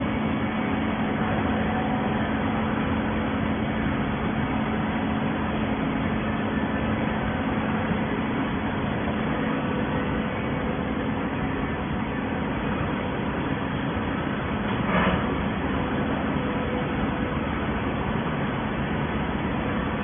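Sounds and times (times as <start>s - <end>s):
hydraulic power unit running: 0.0s - 20.0s.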